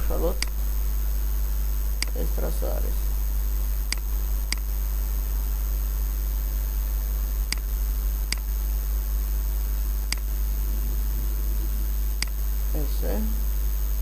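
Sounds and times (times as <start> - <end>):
low electrical hum and hiss: 0.0 - 14.0.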